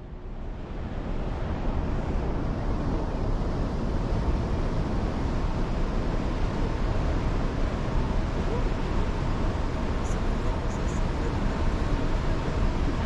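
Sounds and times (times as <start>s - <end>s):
wind buffeting microphone: 0.5s - 13.0s.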